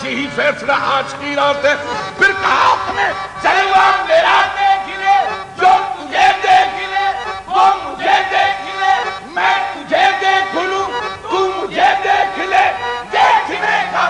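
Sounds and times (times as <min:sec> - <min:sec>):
sharp rhythmic beats: 0:00.0 - 0:14.0
men singing in unison: 0:02.7 - 0:14.0.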